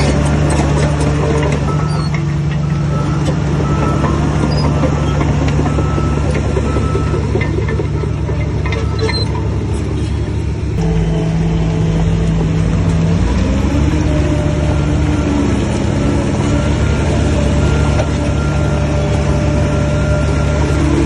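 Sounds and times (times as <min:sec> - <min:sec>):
heavy diesel engine under load: 0:00.0 - 0:21.0.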